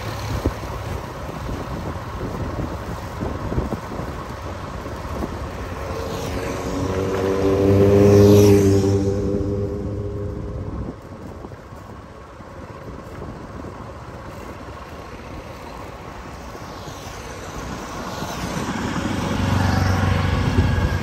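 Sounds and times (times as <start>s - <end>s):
road noise: 0.0s - 21.0s
vehicle engine: 0.0s - 21.0s.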